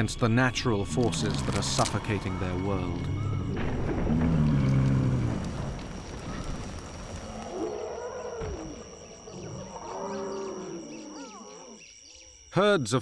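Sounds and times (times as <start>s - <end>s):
deep dinosaur calls: 0.8s - 11.9s.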